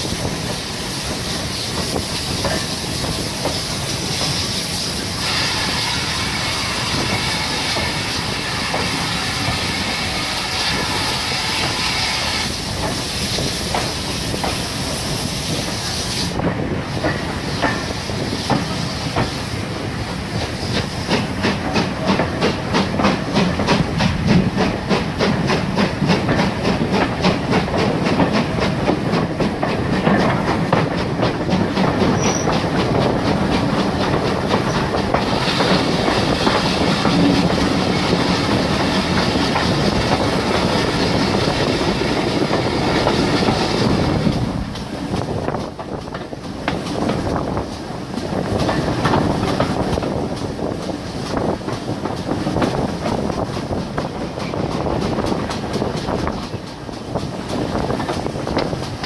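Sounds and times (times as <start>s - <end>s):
steam hissing: 0.0s - 59.0s
train wheels clickety-clack: 0.0s - 59.0s.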